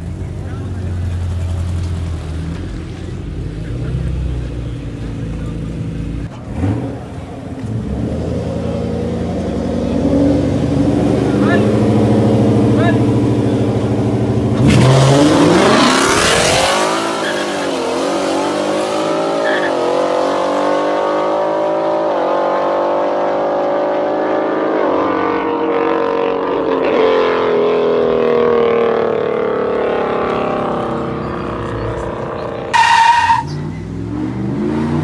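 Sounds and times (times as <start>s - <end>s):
racing car engine revving: 0.7s - 35.0s.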